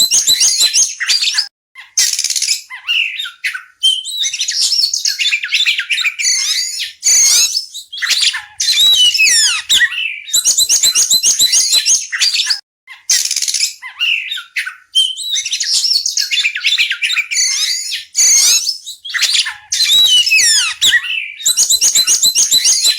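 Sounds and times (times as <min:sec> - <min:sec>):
bird singing whistled phrases: 0:00.0 - 0:01.5, 0:02.7 - 0:22.9.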